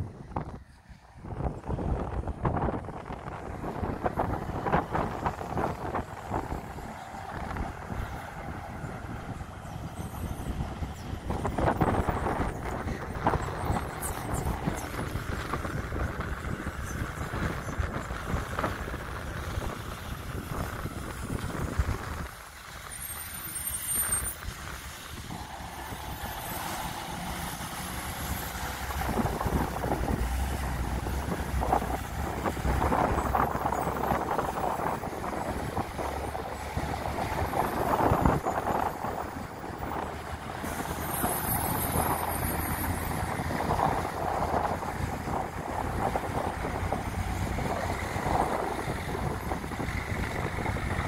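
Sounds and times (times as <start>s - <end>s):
truck engine drone: 0.0s - 51.0s.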